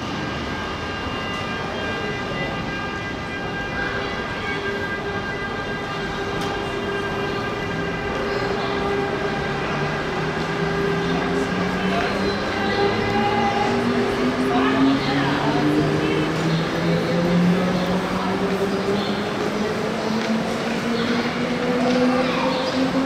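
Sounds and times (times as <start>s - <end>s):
electric locomotive hum and whine: 0.0s - 23.0s.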